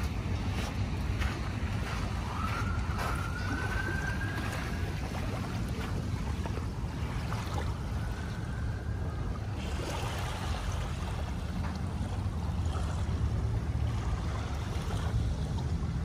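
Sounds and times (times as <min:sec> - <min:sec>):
small waves lapping on sand: 0:00.0 - 0:16.0
wind rumble on microphone: 0:00.0 - 0:16.0.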